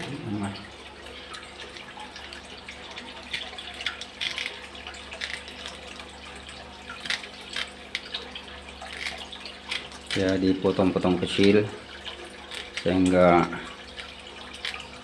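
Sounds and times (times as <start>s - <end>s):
low pump hum: 0.0s - 15.0s
water running in aquarium: 0.0s - 15.0s.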